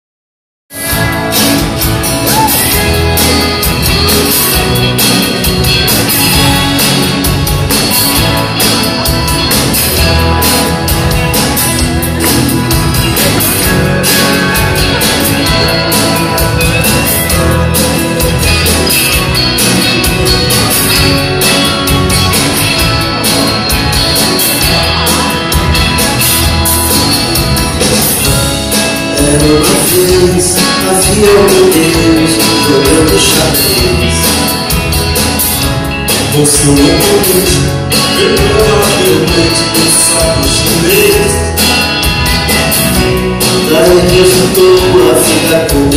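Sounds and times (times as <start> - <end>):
bass with steady beat: 0.8 - 45.9
strummed acoustic guitar: 0.8 - 45.9.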